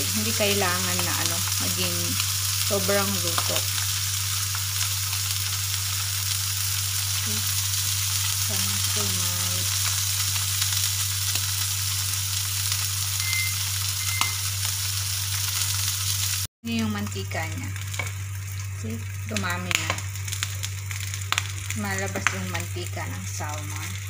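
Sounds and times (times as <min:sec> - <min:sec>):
fish sizzling in a pan: 0:00.0 - 0:24.0.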